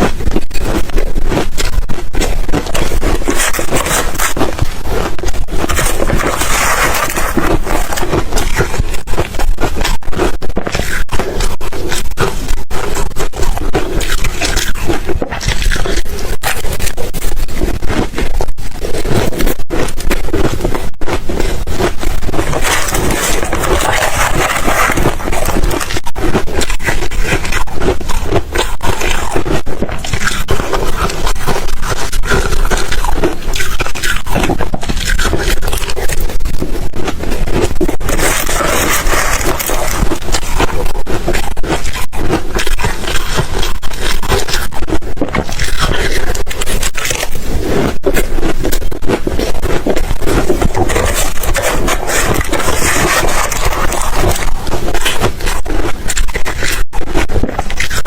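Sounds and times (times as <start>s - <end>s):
ice crunching in mouth: 0.0s - 58.0s.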